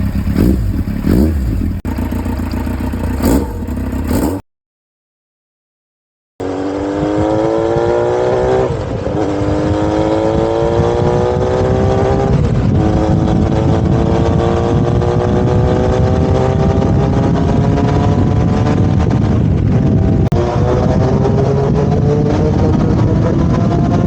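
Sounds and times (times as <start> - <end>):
motorcycle engine accelerating: 0.0 - 4.4, 6.4 - 24.0.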